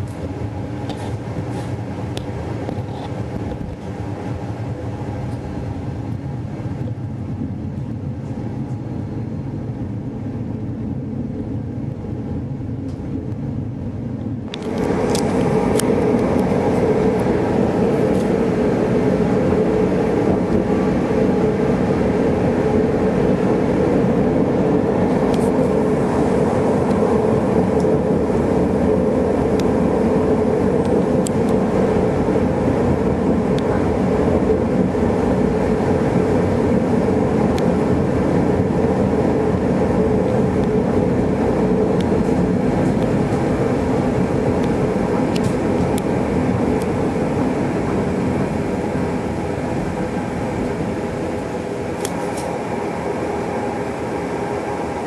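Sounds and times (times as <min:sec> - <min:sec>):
tram rumbling along track: 0:00.0 - 0:55.0.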